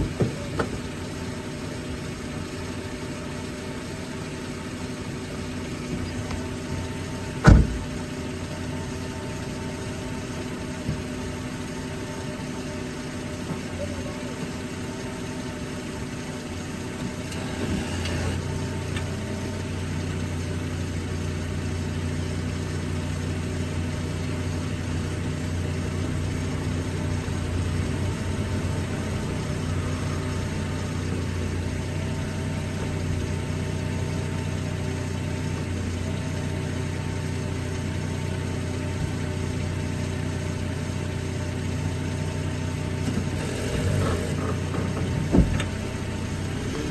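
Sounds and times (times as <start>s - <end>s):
vehicle mechanical drone: 0.0s - 46.9s.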